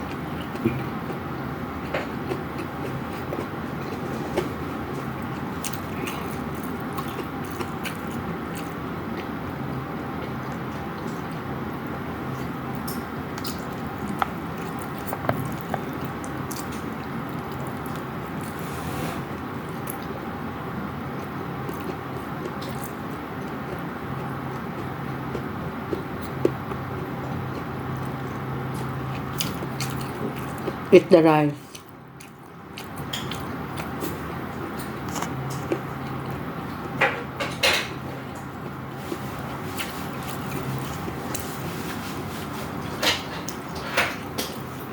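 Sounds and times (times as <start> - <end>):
chewing food: 0.0 - 18.6, 20.9 - 37.1, 37.9 - 44.9
steady background noise: 0.0 - 44.9.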